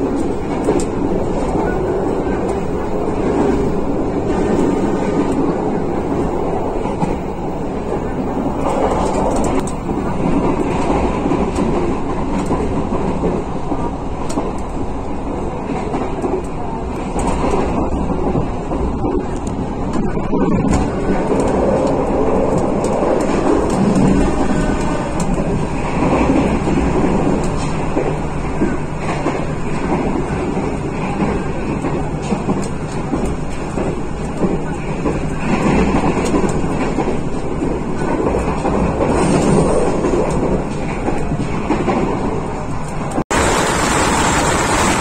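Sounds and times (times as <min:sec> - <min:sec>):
sharp rail clicks: 0:00.0 - 0:43.5
train wheels rumbling on rails: 0:00.0 - 0:45.0.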